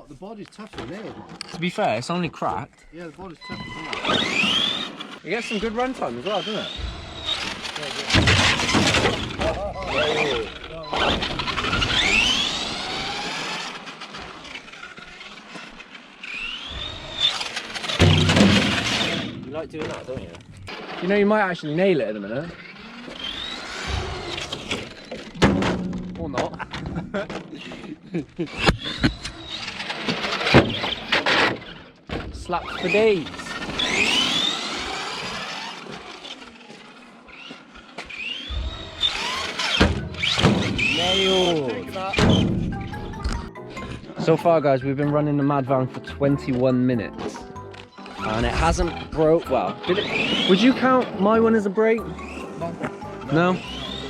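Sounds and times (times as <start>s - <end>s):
toy car electric motor whining: 3.2s - 25.5s, 27.5s - 44.4s, 47.3s - 54.0s.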